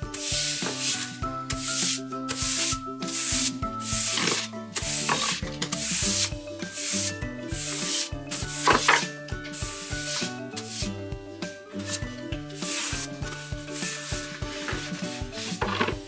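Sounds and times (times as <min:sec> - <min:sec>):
soft background music: 0:00.0 - 0:16.0
brush rubbing on wallpaper: 0:00.1 - 0:11.0, 0:11.8 - 0:15.6.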